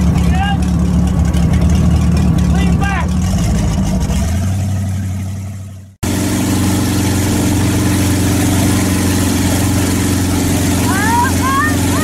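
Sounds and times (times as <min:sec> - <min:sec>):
churning wake rushing: 0:00.0 - 0:12.0
motorboat engine running: 0:00.0 - 0:12.0.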